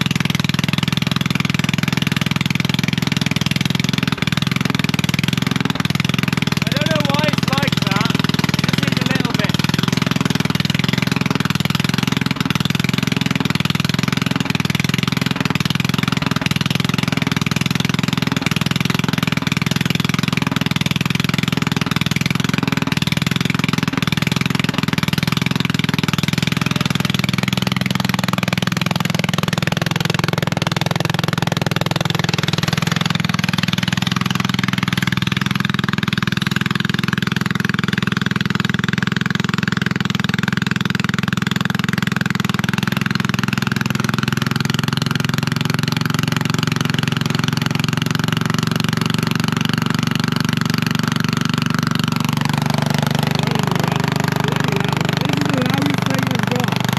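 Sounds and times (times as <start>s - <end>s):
lawn mower engine running loudly: 0.0s - 56.9s.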